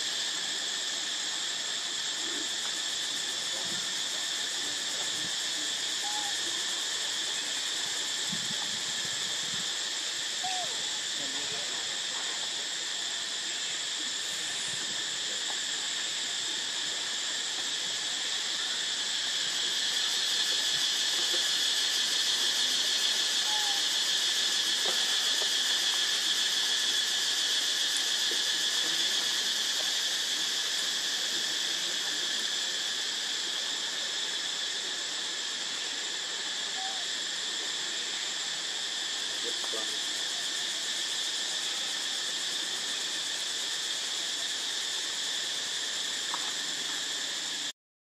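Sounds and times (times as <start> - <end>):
shrill insect chorus: 0.0 - 47.7.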